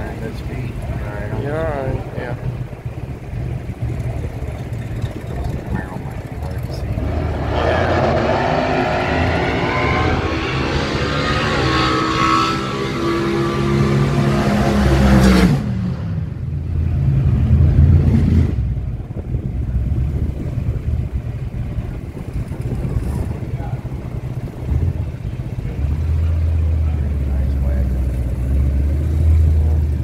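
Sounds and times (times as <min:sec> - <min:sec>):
car engine running: 0:00.0 - 0:11.2, 0:16.2 - 0:30.0
low rumble: 0:00.0 - 0:11.6, 0:14.3 - 0:30.0.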